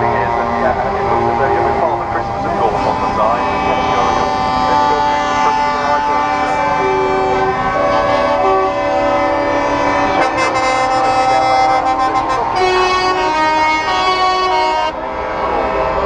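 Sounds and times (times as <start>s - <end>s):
truck air horns blaring: 0.0s - 16.0s.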